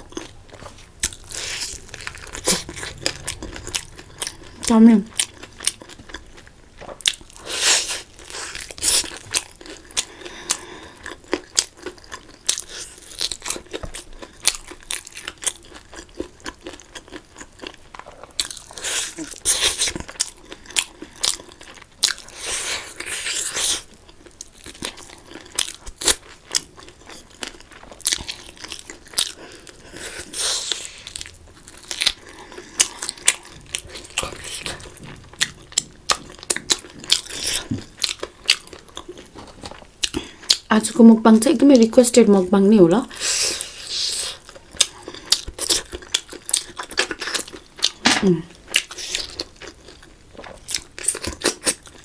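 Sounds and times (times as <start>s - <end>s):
person chewing and crunching: 0.0s - 40.7s, 43.1s - 52.0s.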